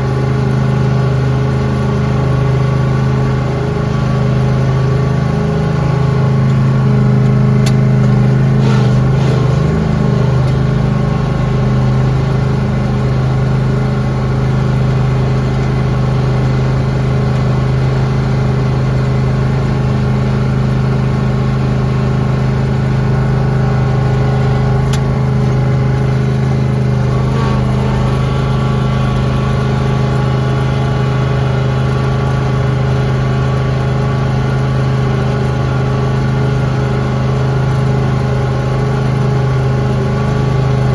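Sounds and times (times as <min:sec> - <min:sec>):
lawn tractor engine running: 0:00.0 - 0:40.9.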